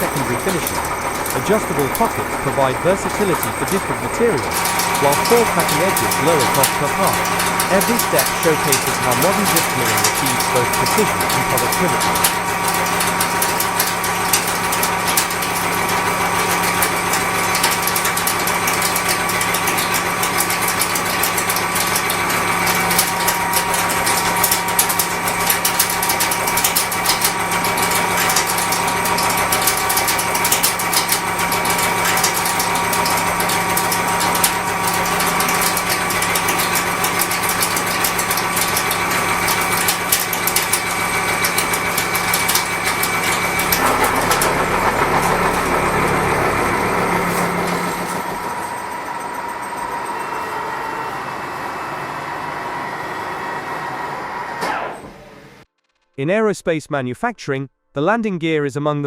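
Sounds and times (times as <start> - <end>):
milling cutter rattling on steel: 0.0 - 49.5
milling machine hum: 0.0 - 55.4.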